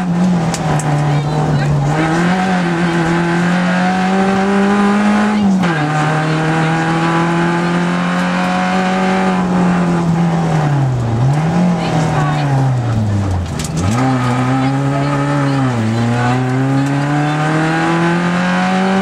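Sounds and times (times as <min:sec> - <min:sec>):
rally car engine: 0:00.0 - 0:19.0.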